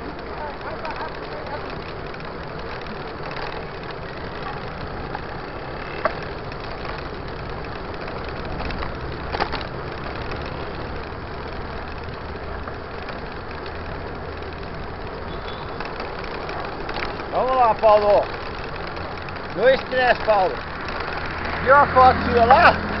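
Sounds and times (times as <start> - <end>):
bicycle riding noise: 0.0 - 23.0
car engines: 0.0 - 23.0
street traffic rumble: 0.0 - 23.0.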